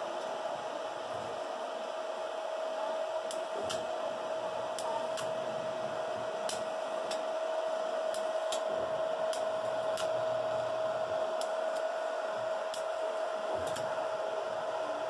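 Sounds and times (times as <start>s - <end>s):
welding machine humming: 0.0s - 15.0s.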